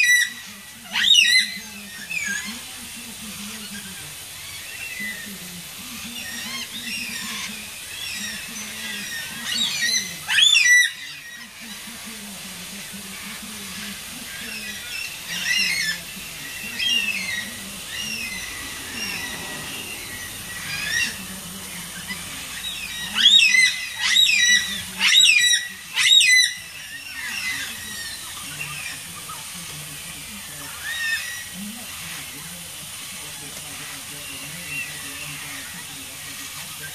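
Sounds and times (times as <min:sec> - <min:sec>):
cockatoos calling: 0:00.0 - 0:36.9.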